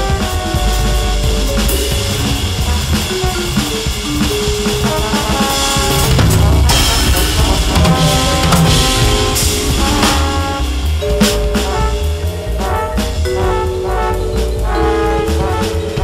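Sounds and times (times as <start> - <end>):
backing track with bass and chords: 0.0 - 16.0
swing on electronic drum kit: 0.0 - 16.0.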